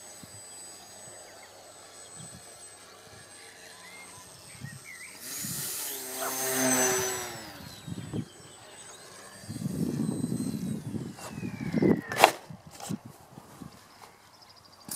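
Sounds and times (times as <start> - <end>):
model plane propeller whine: 0.0 - 14.9.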